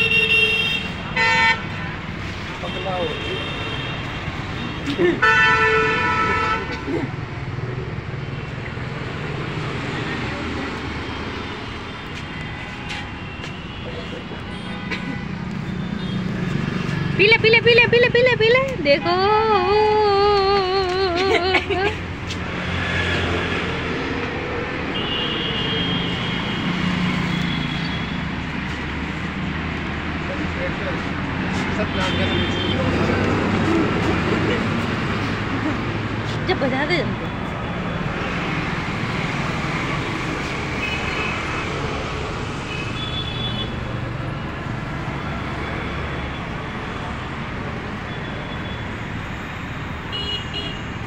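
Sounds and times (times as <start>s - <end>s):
passing cars and motorbikes: 0.0s - 51.0s.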